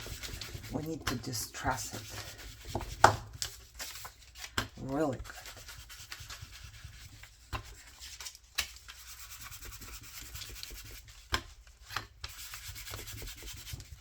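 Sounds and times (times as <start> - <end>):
rubbing and scraping paper: 0.0 - 14.0.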